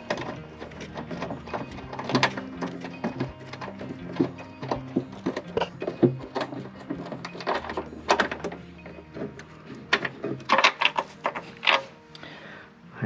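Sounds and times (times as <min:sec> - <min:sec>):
tools and car parts clicking: 0:00.0 - 0:12.3.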